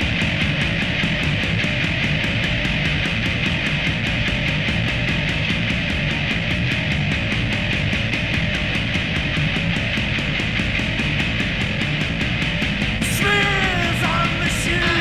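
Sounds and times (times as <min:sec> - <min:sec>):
noise rock music: 0:00.0 - 0:15.0.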